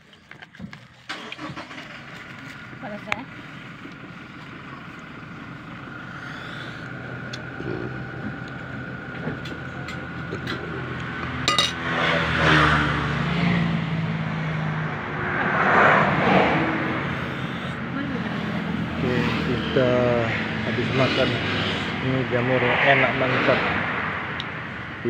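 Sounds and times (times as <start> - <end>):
traffic passing: 0.0 - 25.0.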